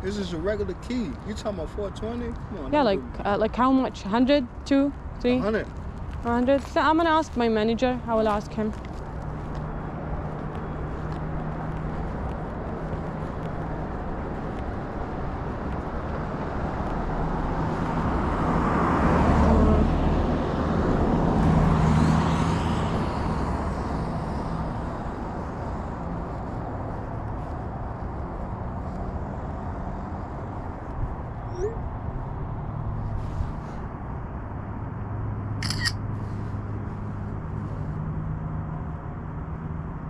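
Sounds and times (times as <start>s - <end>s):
vehicle passing: 0.0s - 38.8s.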